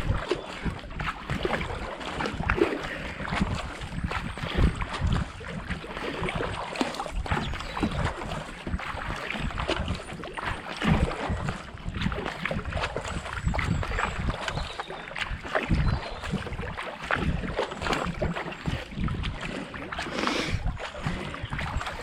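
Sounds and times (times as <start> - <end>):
paddle strokes in water: 0.0 - 22.0
splashing: 0.0 - 22.0
water rushing past hull: 0.0 - 22.0.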